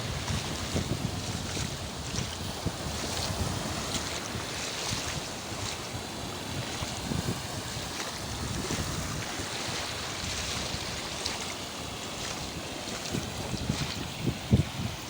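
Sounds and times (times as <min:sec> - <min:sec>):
sea waves and surf: 0:00.0 - 0:15.0
wind buffeting microphone: 0:00.0 - 0:15.0.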